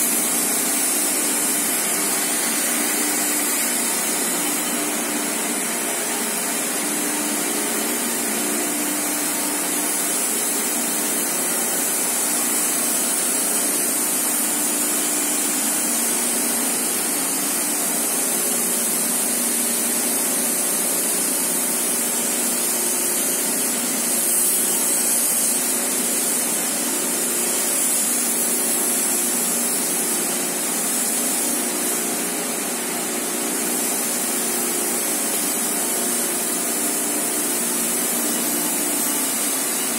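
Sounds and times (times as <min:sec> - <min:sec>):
machine hissing and humming: 0:00.0 - 0:39.9.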